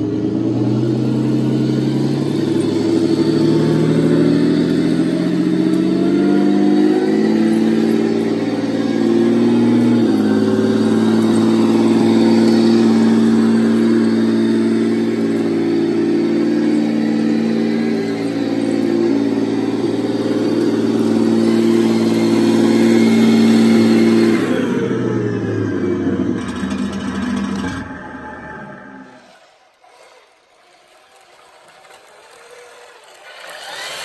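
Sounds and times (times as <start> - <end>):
recorded tank engine from small speaker: 0.0 - 34.0
toy gearbox and tracks whine: 0.0 - 34.0.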